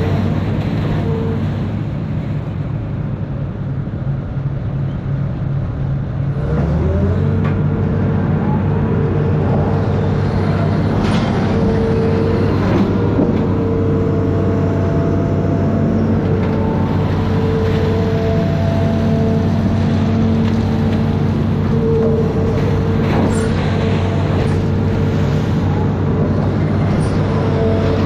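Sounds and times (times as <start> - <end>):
hydraulic whine: 0.0 - 2.8, 6.3 - 28.0
excavator diesel engine revving: 0.0 - 3.0, 6.1 - 28.0.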